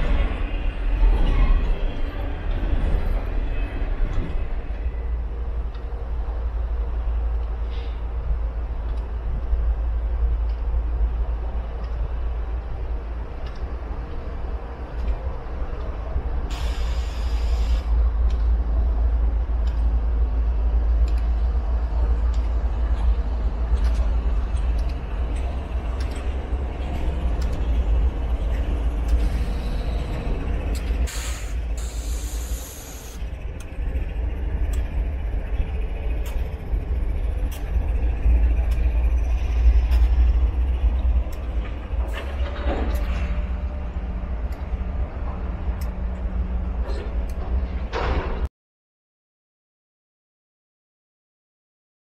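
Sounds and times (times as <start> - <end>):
freight train rumbling on rails: 0.0 - 48.5.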